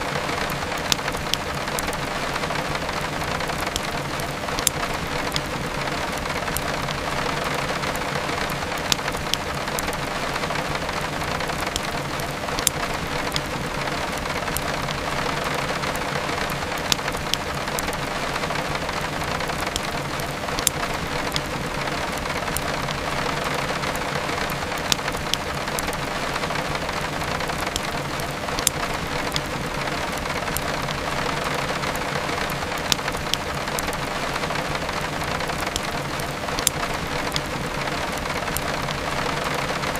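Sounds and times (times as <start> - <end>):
heavy rain falling: 0.0 - 39.9
wood fire crackling: 0.0 - 39.9.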